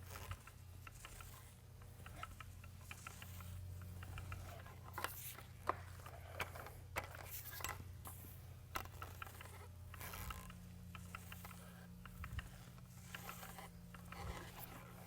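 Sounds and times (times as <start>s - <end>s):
paint roller sticky crackling: 0.0s - 15.0s
steady low hum: 0.0s - 15.0s.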